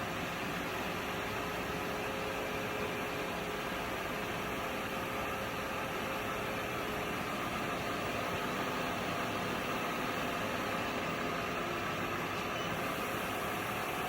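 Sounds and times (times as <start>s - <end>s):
milling machine hum: 0.1s - 14.0s.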